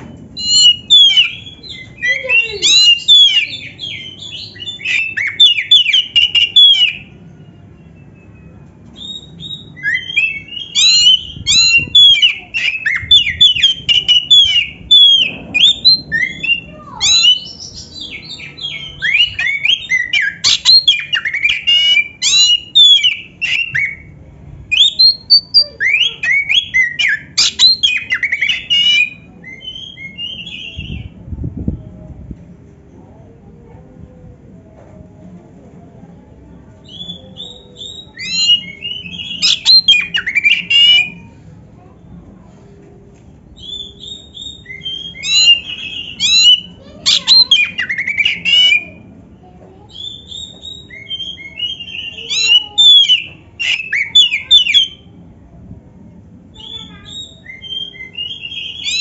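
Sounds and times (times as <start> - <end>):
songbird singing whistles and chatter: 0.0 - 32.0, 36.6 - 42.3, 43.4 - 55.4, 56.4 - 59.0.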